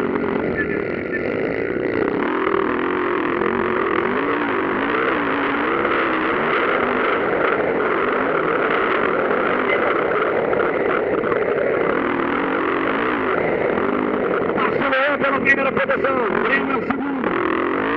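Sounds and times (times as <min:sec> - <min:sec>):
motocross bike engines revving: 0:00.0 - 0:17.9.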